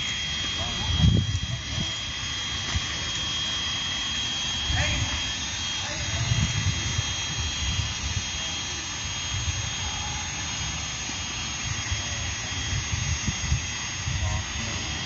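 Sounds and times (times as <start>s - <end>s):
wind buffeting microphone: 0.0s - 3.4s, 4.5s - 15.0s
gas hissing through a hose: 0.0s - 15.0s
thin steady whistle: 0.0s - 15.0s.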